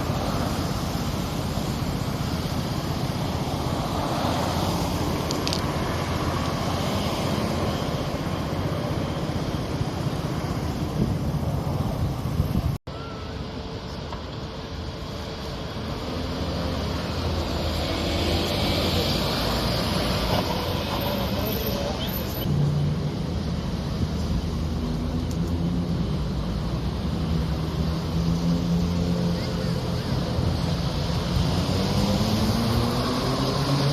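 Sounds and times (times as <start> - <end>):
vehicle rumbling: 0.0 - 33.9.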